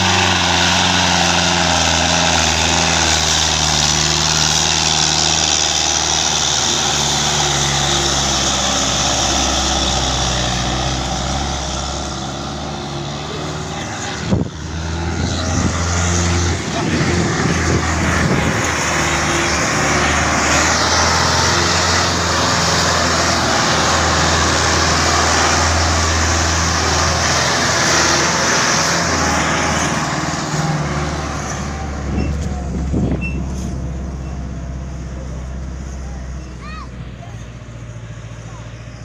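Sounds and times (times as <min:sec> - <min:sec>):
road noise: 0:00.0 - 0:39.0
tractor engine droning: 0:00.0 - 0:39.0
trailer rattling: 0:00.0 - 0:39.0.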